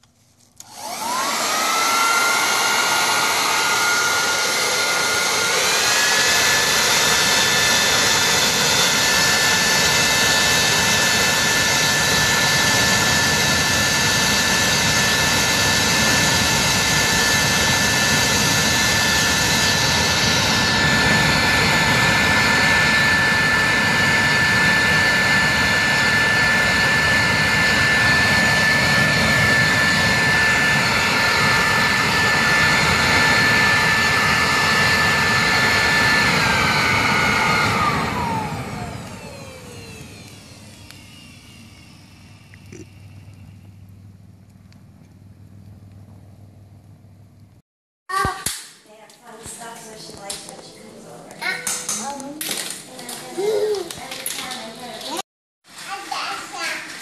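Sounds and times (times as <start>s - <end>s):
leaf blower motor whine: 0.6s - 44.0s, 51.4s - 55.2s.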